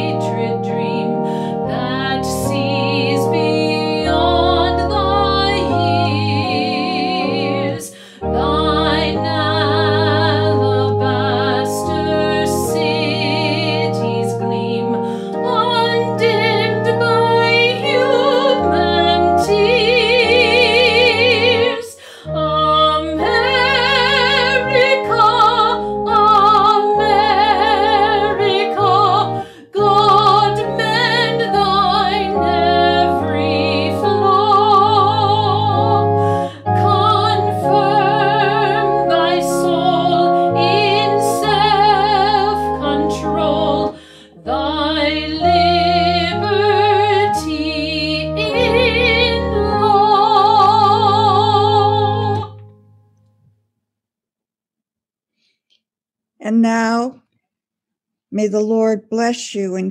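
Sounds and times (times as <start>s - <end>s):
woman singing a hymn: 0.0s - 52.6s
sustained organ chords: 0.0s - 53.0s.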